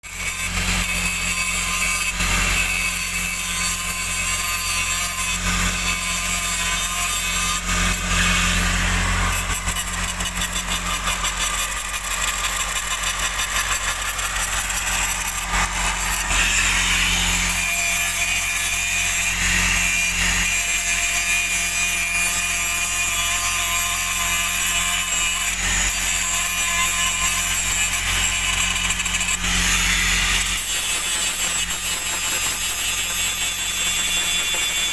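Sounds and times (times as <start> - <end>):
grinder disc rasping on metal: 0.0 - 34.9.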